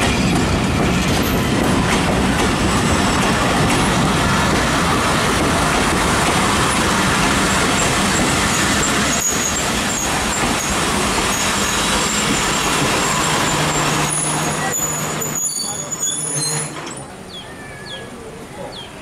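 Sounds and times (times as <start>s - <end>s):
train wheels rumbling on rails: 0.0s - 17.4s.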